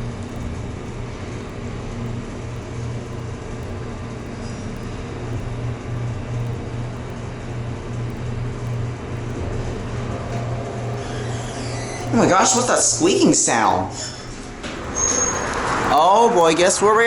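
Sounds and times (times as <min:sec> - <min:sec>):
elevator car travelling hum: 0:00.0 - 0:17.0.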